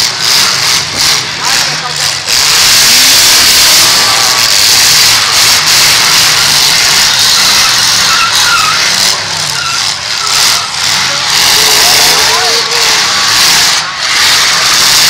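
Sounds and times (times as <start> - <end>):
car engines revving: 0.0 - 15.0
wheels spinning: 0.0 - 15.0.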